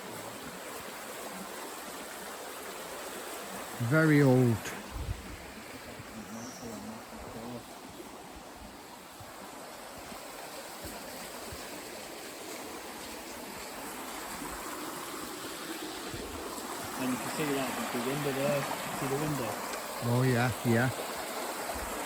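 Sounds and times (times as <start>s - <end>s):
stream rushing: 0.0s - 22.0s.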